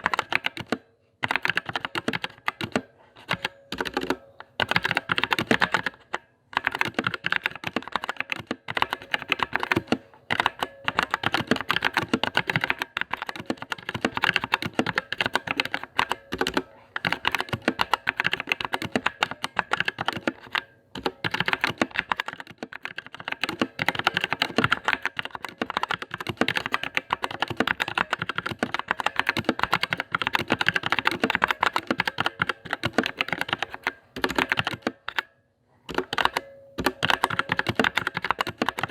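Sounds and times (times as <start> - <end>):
typing on mechanical keyboard: 0.0 - 35.3, 35.9 - 38.9.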